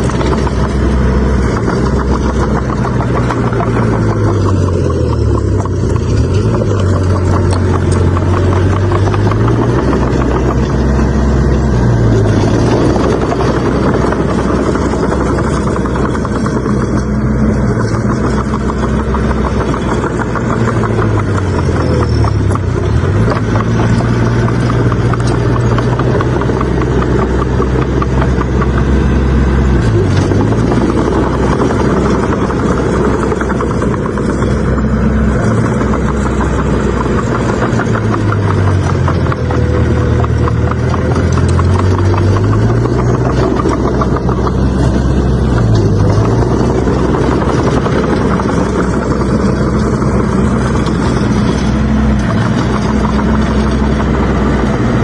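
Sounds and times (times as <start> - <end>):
bulldozer diesel engine running hard: 0.0 - 55.0.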